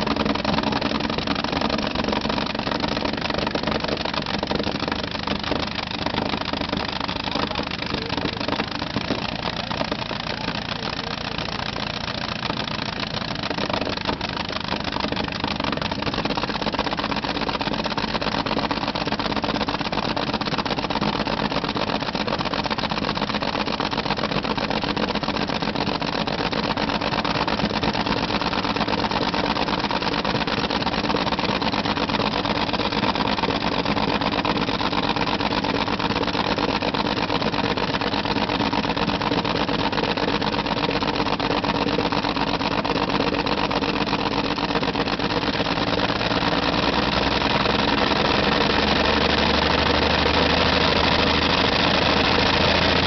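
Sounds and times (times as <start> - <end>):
engine running at steady speed: 0.0 - 53.0.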